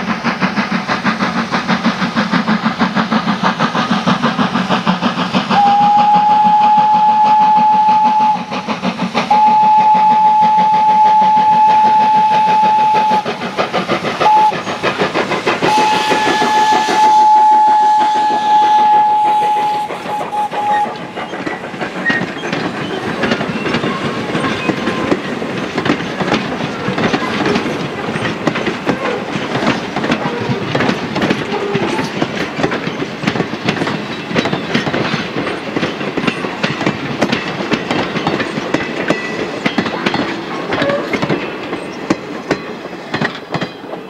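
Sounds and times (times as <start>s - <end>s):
train wheels clattering over rail joints: 0.0s - 44.0s.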